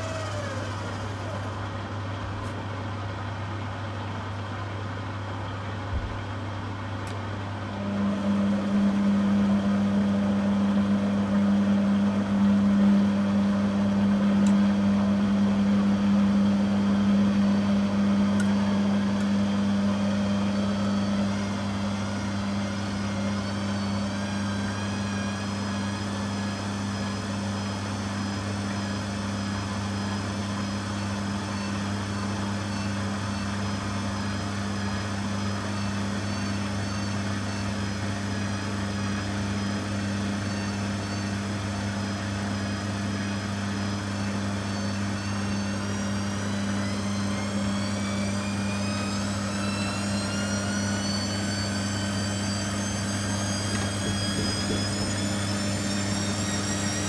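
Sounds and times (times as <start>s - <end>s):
faint high whine rising: 0.0s - 2.0s, 7.6s - 57.0s
washing machine humming: 0.0s - 57.0s.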